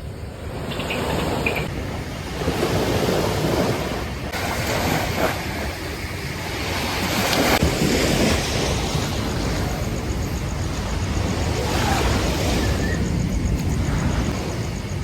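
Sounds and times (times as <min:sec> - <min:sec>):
wind buffeting microphone: 0:00.0 - 0:15.0
sea waves washing onto beach: 0:01.3 - 0:15.0.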